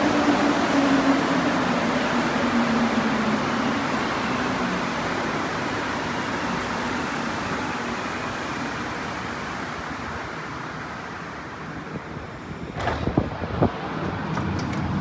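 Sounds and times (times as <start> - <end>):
metro train rushing and braking: 0.0 - 15.0.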